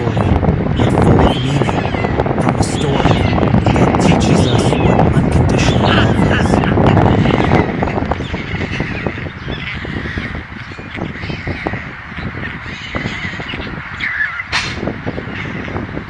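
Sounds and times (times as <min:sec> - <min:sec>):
birds calling: 0:00.0 - 0:16.0
loud harsh bird call: 0:00.0 - 0:16.0.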